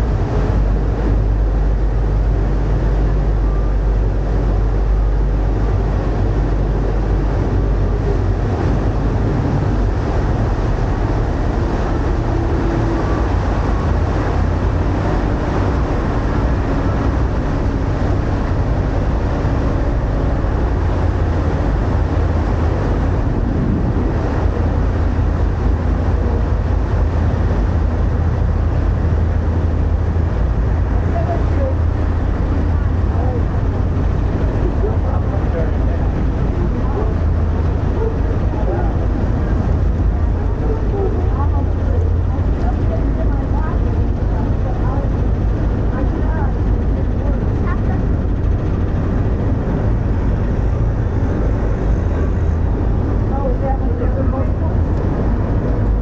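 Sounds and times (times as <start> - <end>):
boat engine drone: 0.0 - 56.0
wake water rushing: 0.0 - 56.0.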